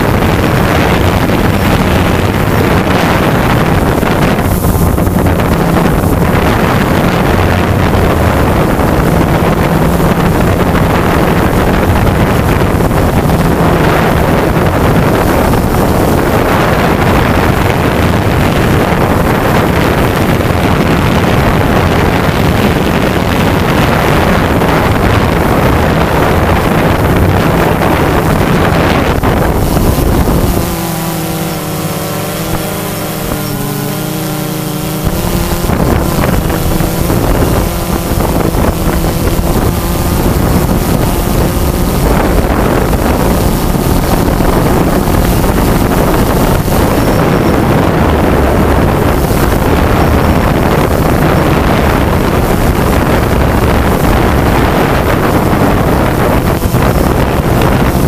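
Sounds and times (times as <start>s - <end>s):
drone motors whining: 0.0s - 58.0s
wind rushing on microphone: 0.0s - 58.0s.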